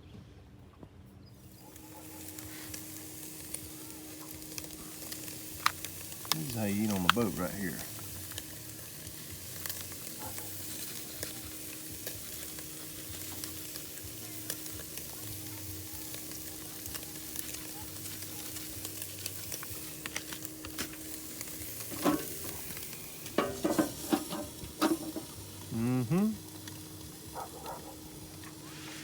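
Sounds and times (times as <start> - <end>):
food sizzling on a grill: 1.4 - 29.0.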